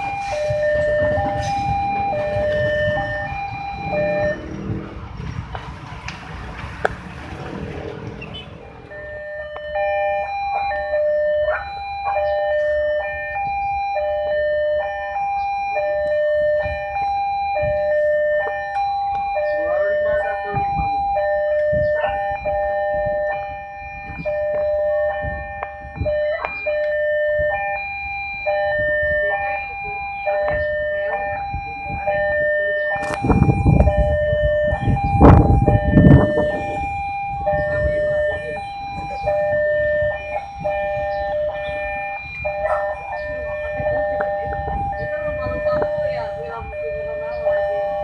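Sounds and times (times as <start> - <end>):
level crossing warning alarm: 0.0 - 48.0
low rumble of traffic: 0.0 - 48.0.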